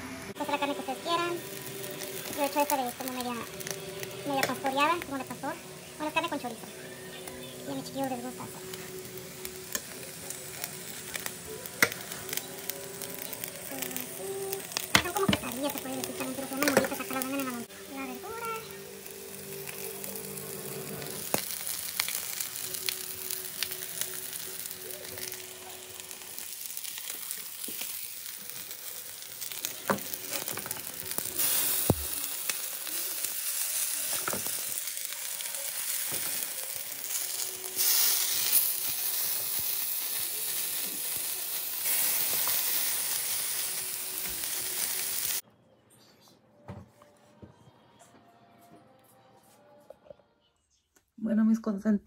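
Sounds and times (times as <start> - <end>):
food sizzling on a griddle: 0.0 - 45.4.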